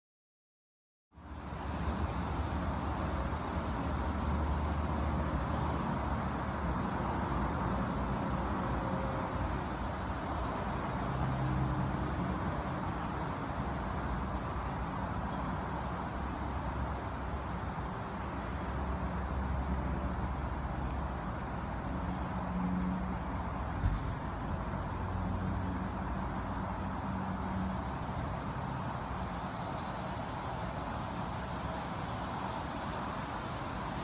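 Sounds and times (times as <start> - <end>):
distant highway traffic drone: 1.2 - 34.0.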